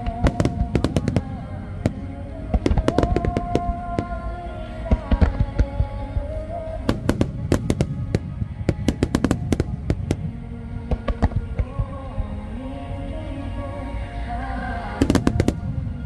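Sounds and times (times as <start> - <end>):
fireworks bursting with sharp bangs: 0.0 - 12.2, 15.0 - 16.0
music playing: 0.0 - 16.0.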